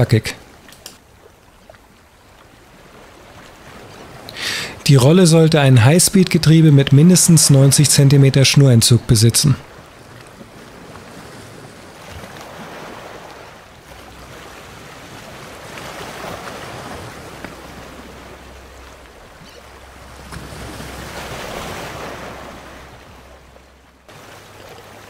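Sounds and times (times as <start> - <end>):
surf washing on rocks: 2.1 - 25.0.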